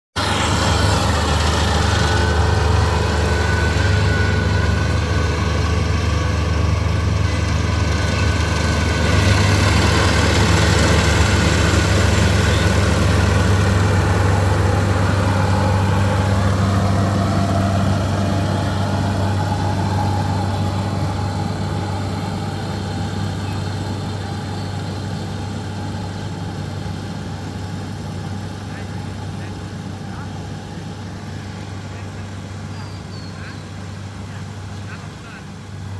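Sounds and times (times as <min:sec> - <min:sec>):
harvester engine humming: 0:00.2 - 0:35.9.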